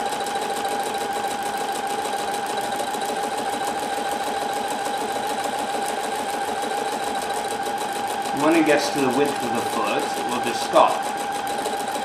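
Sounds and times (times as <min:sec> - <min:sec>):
sewing machine running: 0:00.0 - 0:12.0.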